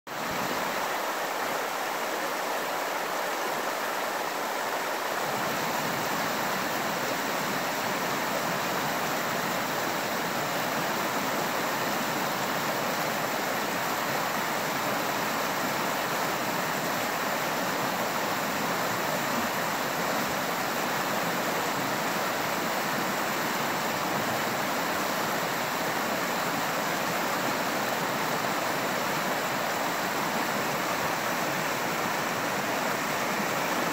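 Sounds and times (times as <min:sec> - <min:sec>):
creek rushing over boulders: 0:00.1 - 0:33.9.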